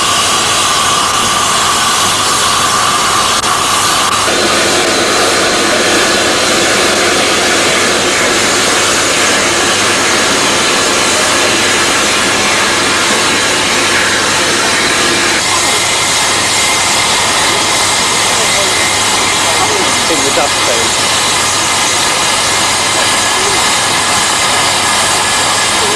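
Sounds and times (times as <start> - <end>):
steam hissing from locomotive: 0.0 - 25.9.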